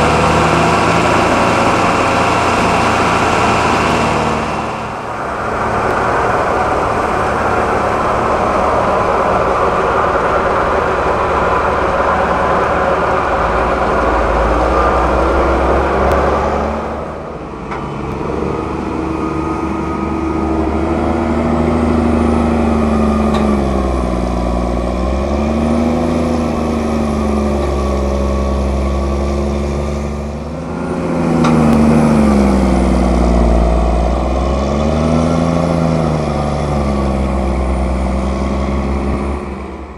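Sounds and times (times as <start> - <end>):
diesel farm machinery running: 0.0 - 39.9.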